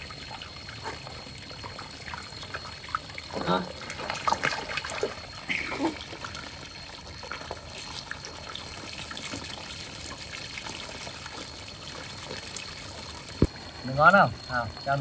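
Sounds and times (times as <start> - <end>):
running water trickling: 0.0 - 15.0.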